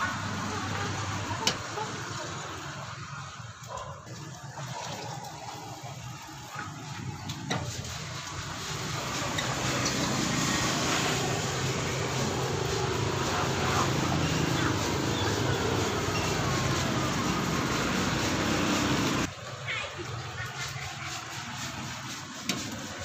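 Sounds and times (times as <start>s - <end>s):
laminator humming: 0.0s - 23.0s.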